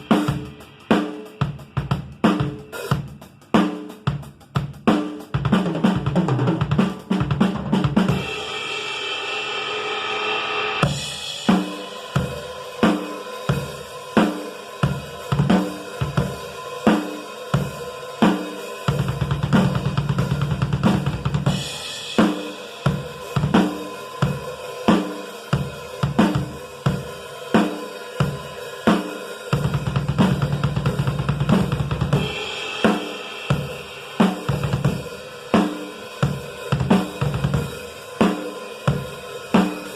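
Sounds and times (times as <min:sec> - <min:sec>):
drum kit playing: 0:00.0 - 0:39.9.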